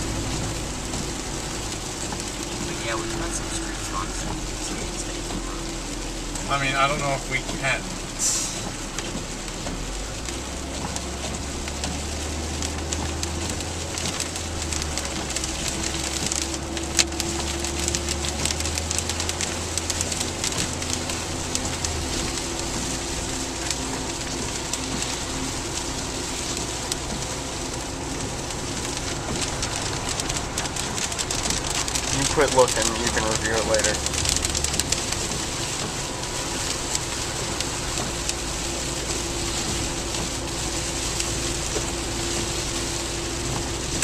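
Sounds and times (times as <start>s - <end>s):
low car rumble: 0.0s - 44.0s
rain pattering on a car roof: 0.0s - 44.0s.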